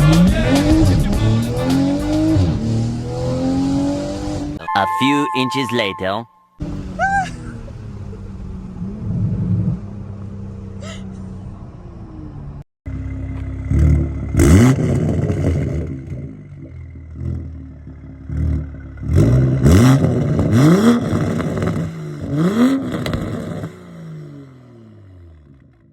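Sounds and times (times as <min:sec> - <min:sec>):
car engine revving: 0:00.0 - 0:04.6, 0:06.6 - 0:25.6.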